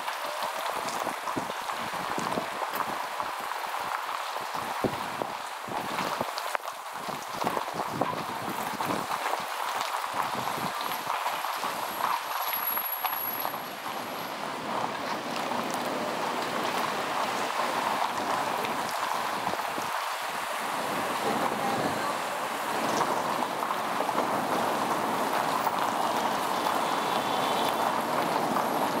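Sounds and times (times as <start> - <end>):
tyre and wind noise from car: 0.0 - 29.0.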